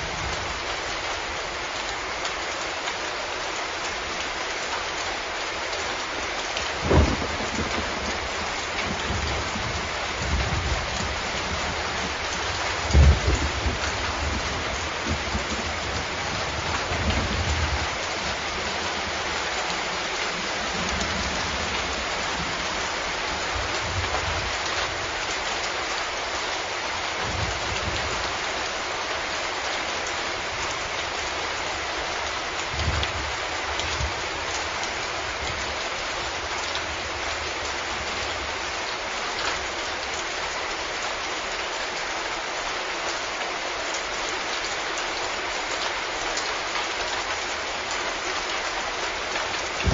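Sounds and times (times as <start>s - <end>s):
heavy rain hissing: 0.0s - 49.9s.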